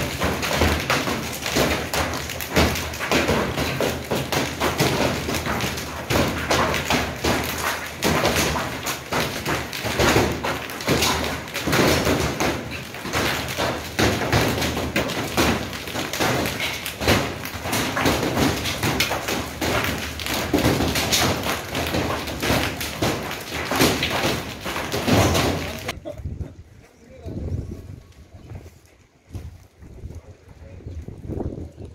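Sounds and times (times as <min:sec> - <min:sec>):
hail clattering on paving: 0:00.0 - 0:26.0.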